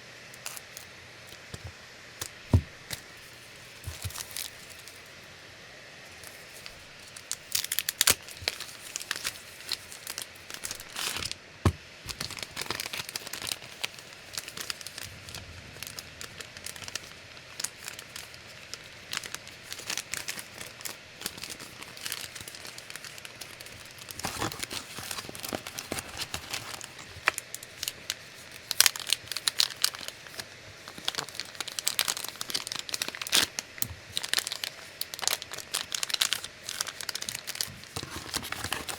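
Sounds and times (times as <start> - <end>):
packaging crinkling and tearing: 0.4 - 5.1, 6.1 - 11.4, 12.0 - 38.9.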